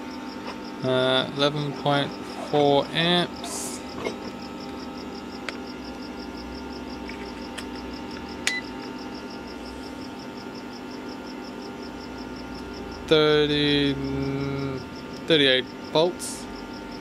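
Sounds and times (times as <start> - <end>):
faint pulsing high tone: 0.0 - 17.0
welder electrical hum: 0.0 - 17.0.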